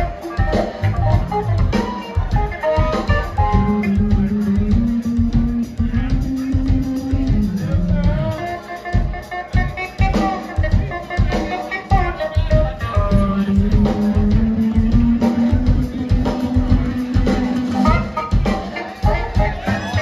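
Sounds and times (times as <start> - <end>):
electric bass: 0.0 - 9.1, 12.0 - 20.0
drum kit: 0.0 - 20.0
electric guitar: 0.0 - 20.0.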